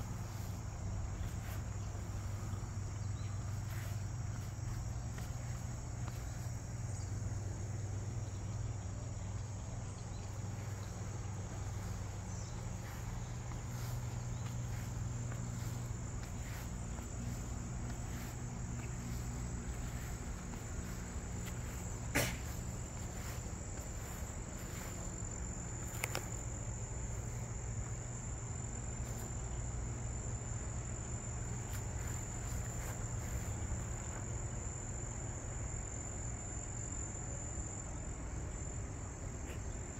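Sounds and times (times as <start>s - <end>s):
insects trilling: 0.0s - 39.9s
low steady hum: 0.0s - 39.9s.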